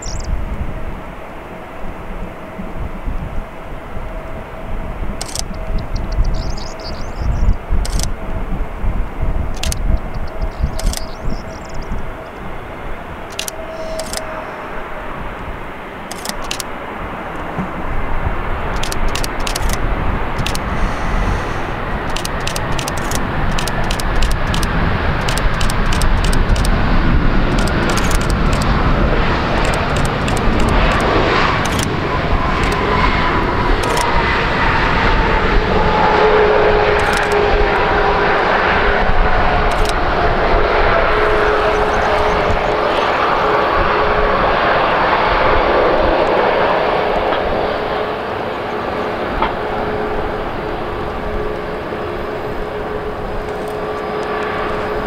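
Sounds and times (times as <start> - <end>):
aircraft hum: 0.0 - 55.0
jet engines rumbling and whining: 0.0 - 55.0.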